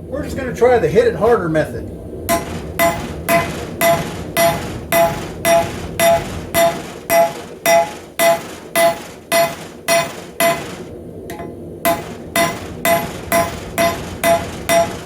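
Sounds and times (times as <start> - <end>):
hammer ringing on metal: 2.3 - 15.0.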